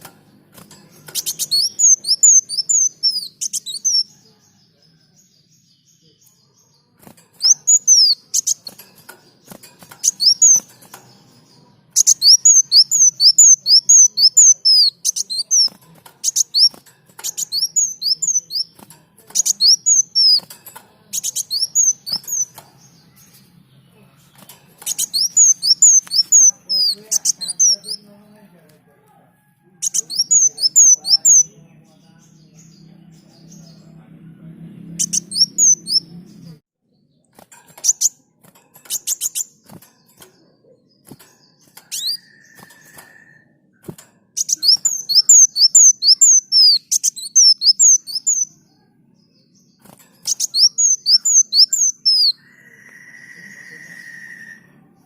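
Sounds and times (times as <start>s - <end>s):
bird singing high sliding chirps: 0.3s - 4.2s, 4.9s - 28.1s, 29.8s - 34.0s, 34.8s - 55.0s.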